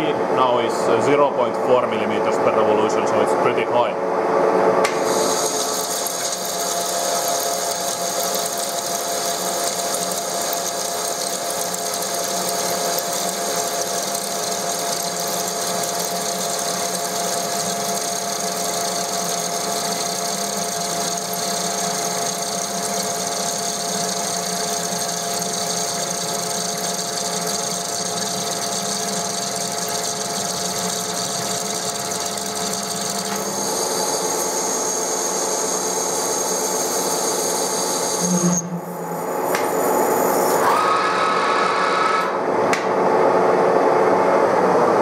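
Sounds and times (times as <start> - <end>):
machine whining tones: 5.1 - 42.4.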